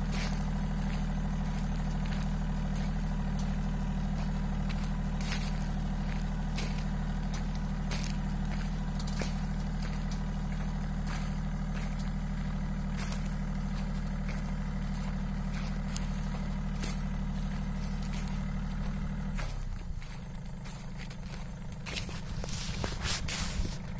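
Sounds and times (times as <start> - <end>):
tractor engine running: 0.0 - 23.9.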